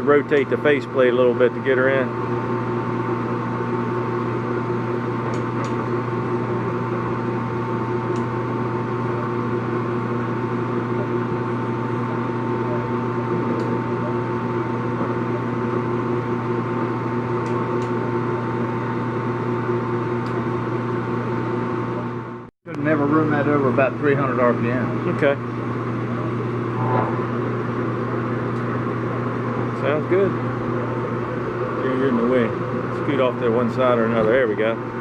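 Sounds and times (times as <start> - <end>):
lathe running with mechanical hum: 0.0 - 35.0.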